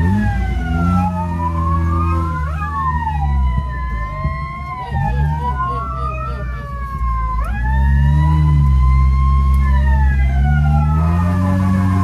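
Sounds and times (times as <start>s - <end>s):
electronic sirens wailing: 0.0s - 12.0s
truck engine drone: 0.0s - 12.0s.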